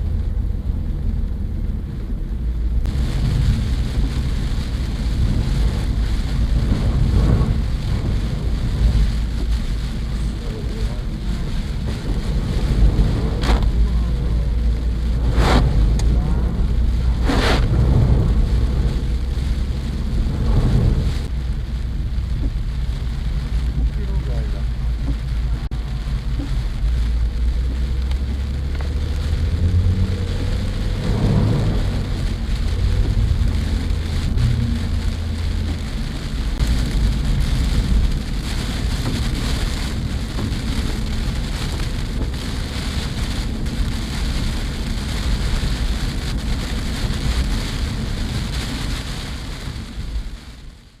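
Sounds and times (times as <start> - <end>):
engine and road rumble: 0.0 - 51.0
heavy rain drumming on car: 0.0 - 51.0.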